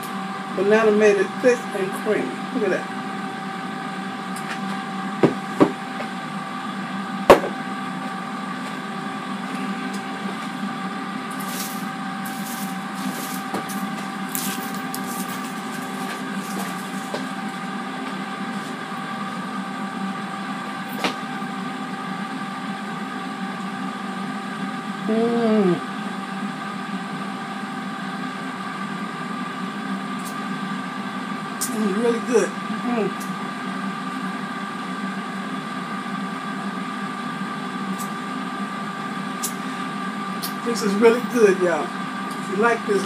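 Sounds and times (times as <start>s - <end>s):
air fryer fan hum: 0.0s - 43.0s.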